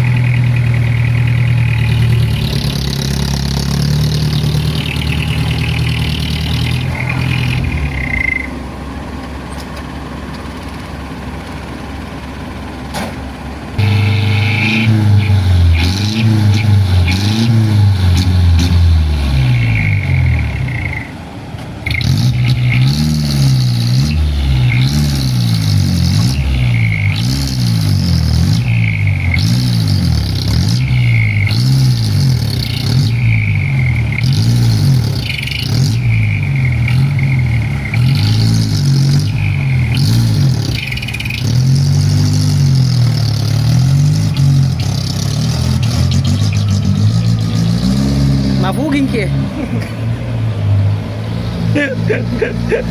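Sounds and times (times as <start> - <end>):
diesel truck engine revving: 0.0 - 52.9.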